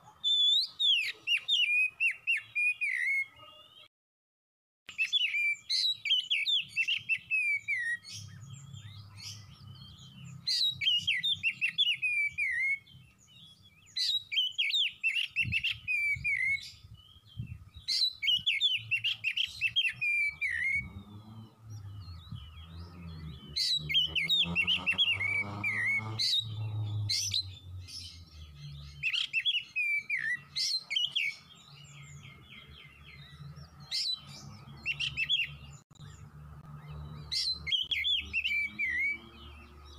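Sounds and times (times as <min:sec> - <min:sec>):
bird singing whistled notes: 0:00.0 - 0:03.9, 0:04.9 - 0:39.9.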